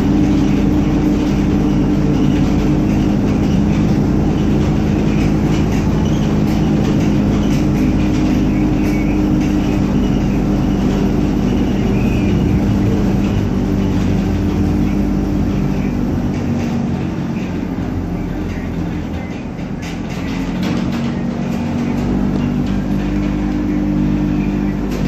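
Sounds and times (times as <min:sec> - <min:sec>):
trolleybus electric hum: 0:00.0 - 0:25.0.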